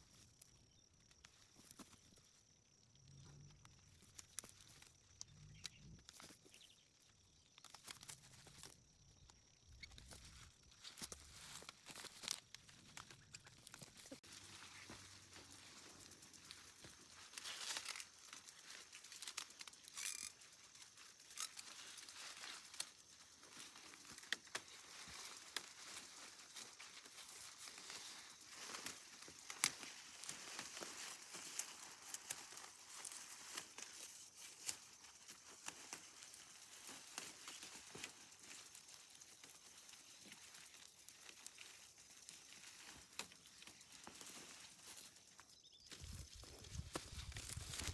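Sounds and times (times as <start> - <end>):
rustling of plants: 0.0 - 47.9
small clicks and crackles: 0.0 - 47.9.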